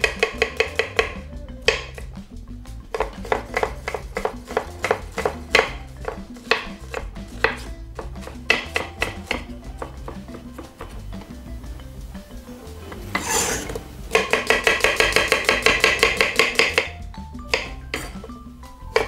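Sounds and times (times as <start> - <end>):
knife chopping on wooden board: 0.0 - 2.2, 2.9 - 11.4, 12.9 - 16.9, 17.5 - 19.0
background music: 0.0 - 19.0.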